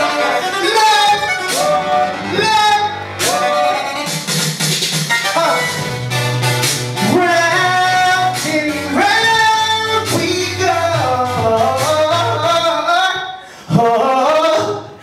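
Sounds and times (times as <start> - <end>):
backing music with bass line: 0.0 - 15.0.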